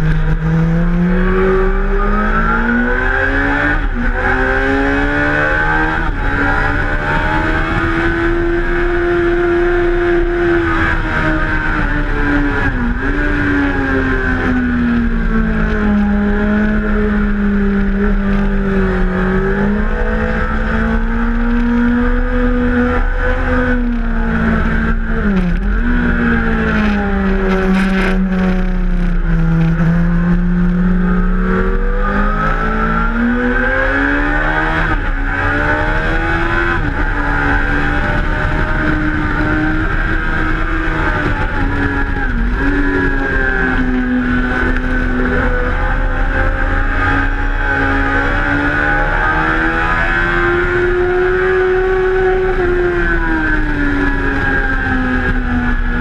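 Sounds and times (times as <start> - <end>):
wind noise: 0.0 - 56.0
motorcycle engine running hard: 5.5 - 56.0.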